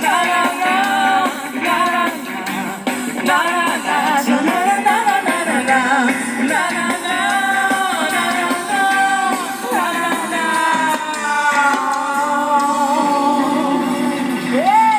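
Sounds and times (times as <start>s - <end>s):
musical accompaniment: 0.0s - 14.9s
person singing long notes: 0.0s - 14.9s.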